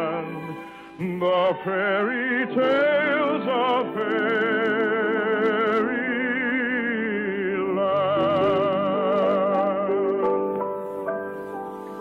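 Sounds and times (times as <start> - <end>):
baritone singing with vibrato: 0.0 - 10.6
musical accompaniment: 0.0 - 12.0.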